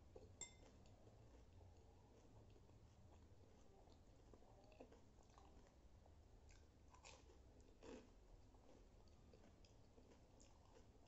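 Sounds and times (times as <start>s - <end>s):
crunchy food being chewed: 0.0s - 11.0s.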